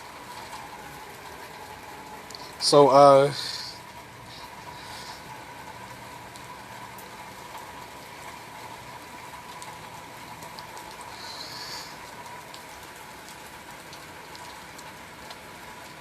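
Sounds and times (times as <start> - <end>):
steady rain: 0.0 - 16.0
water dripping: 0.0 - 16.0.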